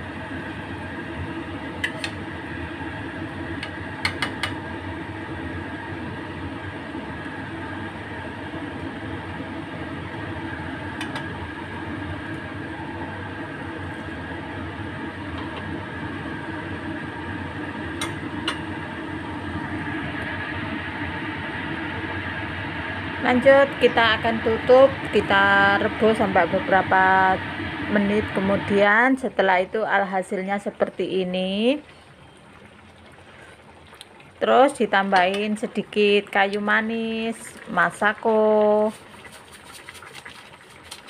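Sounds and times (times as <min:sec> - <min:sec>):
sauce simmering: 0:00.0 - 0:28.4, 0:30.6 - 0:41.0
steady hum: 0:00.0 - 0:41.0.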